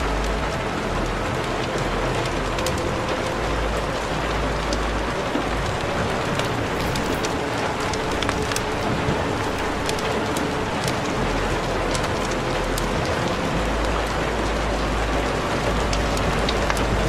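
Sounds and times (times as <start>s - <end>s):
rain-like hiss with crackles: 0.0s - 17.0s.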